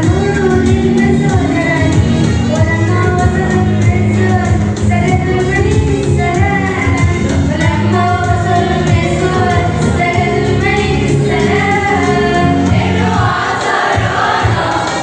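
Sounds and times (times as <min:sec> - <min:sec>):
musical accompaniment: 0:00.0 - 0:15.0.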